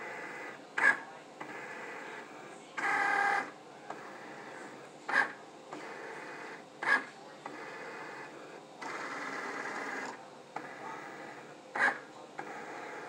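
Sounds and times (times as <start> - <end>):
cutting machine motors whirring: 0.0 - 13.0.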